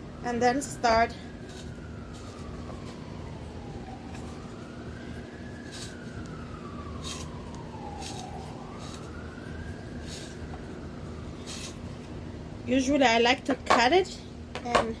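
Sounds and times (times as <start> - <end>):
emergency siren wailing: 0.0 - 12.7.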